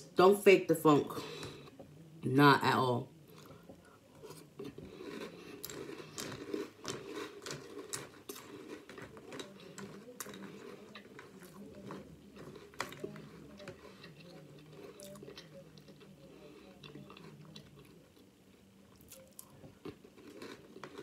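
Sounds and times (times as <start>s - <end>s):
person chewing crunchy cereal: 3.3s - 21.0s.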